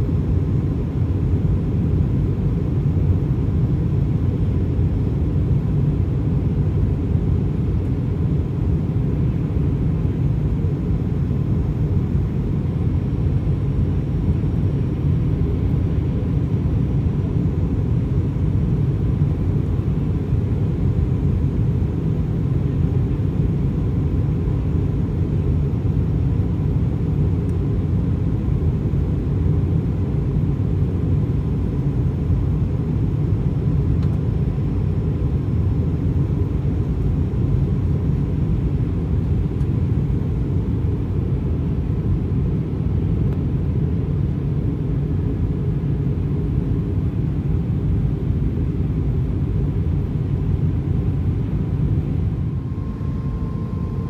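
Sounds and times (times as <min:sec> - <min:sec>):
aircraft cabin engine rumble: 0:00.0 - 0:54.0
faint steady tone: 0:02.8 - 0:54.0.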